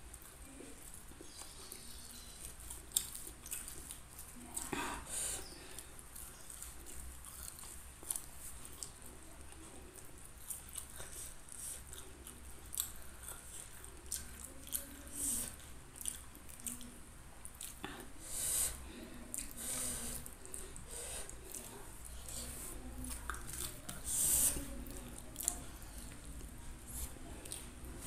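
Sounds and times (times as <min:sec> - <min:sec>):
mouth chewing food: 0:00.0 - 0:28.0.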